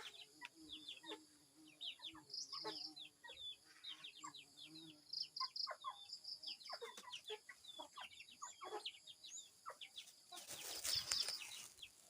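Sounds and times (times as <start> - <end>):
chickens chirping: 0.0 - 12.0
chickens clucking: 0.0 - 12.0.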